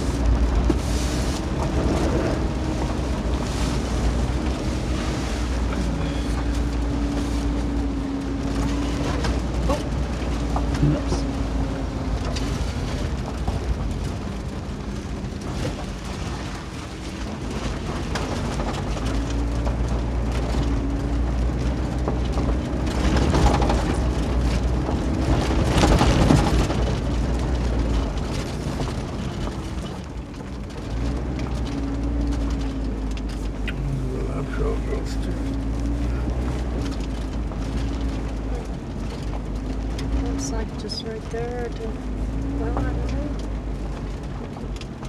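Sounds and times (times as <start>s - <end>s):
engine and drivetrain hum: 0.0s - 45.0s
tyres rumbling over gravel: 0.0s - 45.0s.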